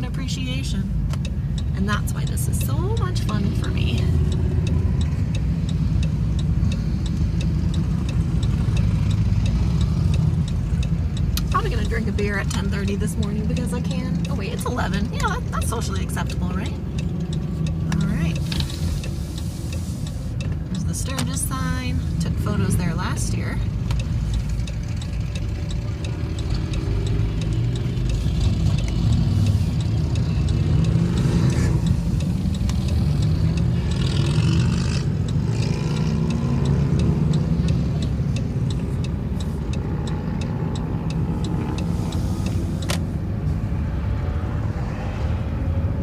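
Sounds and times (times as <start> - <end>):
low engine rumble: 0.0 - 46.0
motorcycle engines revving: 1.9 - 46.0.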